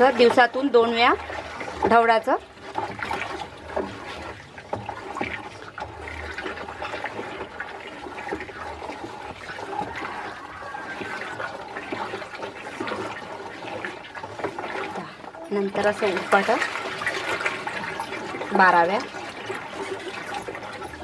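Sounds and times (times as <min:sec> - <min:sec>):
slurry sloshing in a plastic drum: 0:00.0 - 0:21.0
small splashes: 0:00.0 - 0:21.0.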